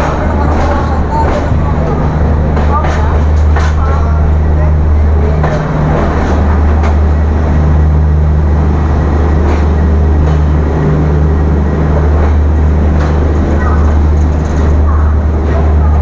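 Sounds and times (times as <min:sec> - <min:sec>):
train humming: 0:00.0 - 0:16.0.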